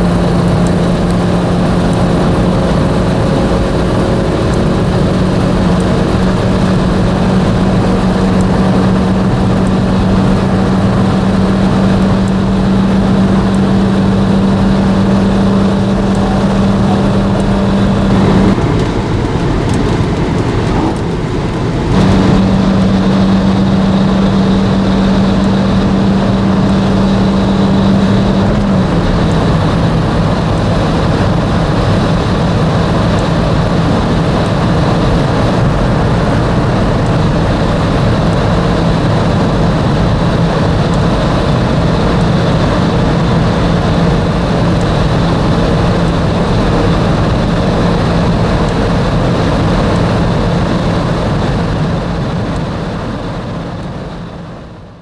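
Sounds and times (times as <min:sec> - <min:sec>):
road noise: 0:00.0 - 0:55.0
van engine droning: 0:00.0 - 0:55.0.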